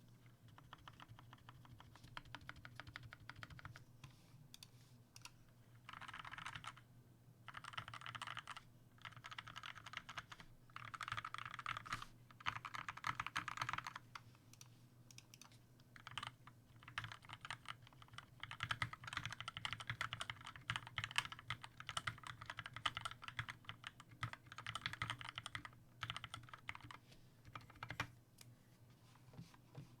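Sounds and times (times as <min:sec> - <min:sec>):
mechanical keyboard typing: 0:00.5 - 0:03.8, 0:05.2 - 0:06.8, 0:07.5 - 0:14.0, 0:15.1 - 0:28.1.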